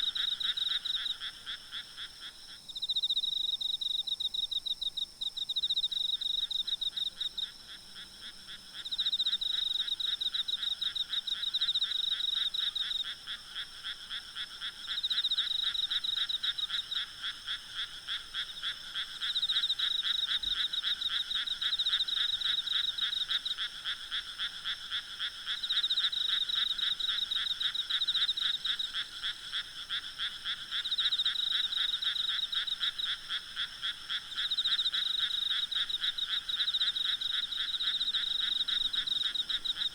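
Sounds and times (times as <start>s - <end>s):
frogs calling in trills: 0.0s - 39.9s
insects trilling: 0.0s - 39.9s.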